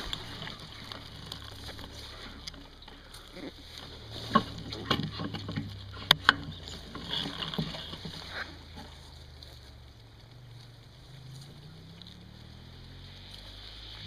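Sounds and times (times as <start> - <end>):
motorcycle knocks and rattles: 0.0 - 12.7
low steady hum: 0.0 - 14.0.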